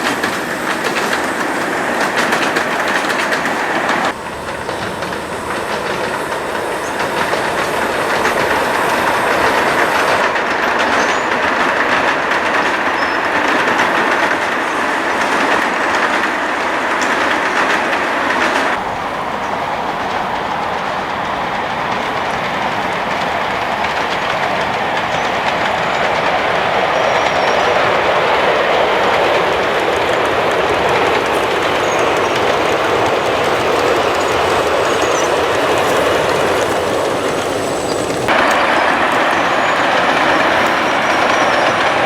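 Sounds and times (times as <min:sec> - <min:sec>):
model train running on track: 0:00.0 - 0:42.0.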